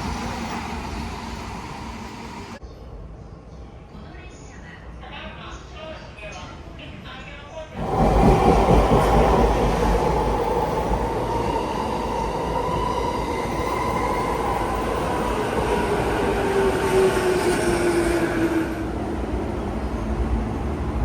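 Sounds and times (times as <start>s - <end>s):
train rumbling: 0.0s - 2.6s, 5.2s - 21.0s.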